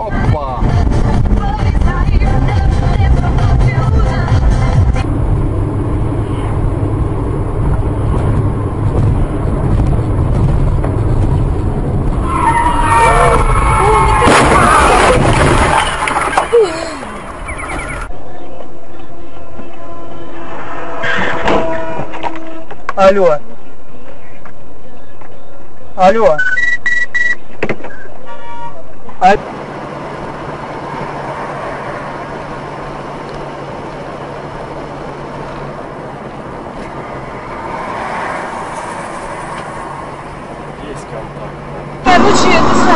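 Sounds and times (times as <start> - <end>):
moving vehicle rumble: 0.0 - 42.9
road and wind noise: 0.0 - 42.9.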